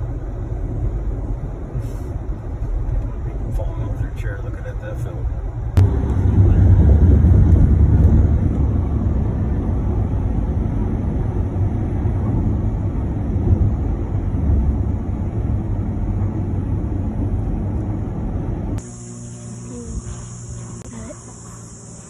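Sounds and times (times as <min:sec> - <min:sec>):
road and wind noise inside car: 0:00.0 - 0:22.0.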